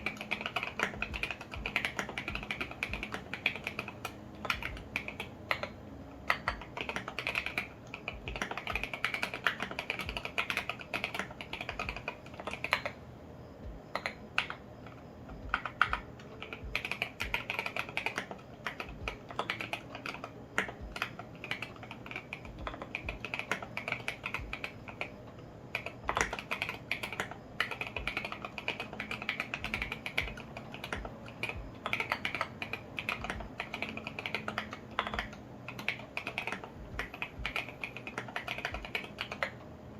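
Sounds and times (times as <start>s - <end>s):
mechanical keyboard typing: 0.0s - 13.0s, 13.9s - 39.7s.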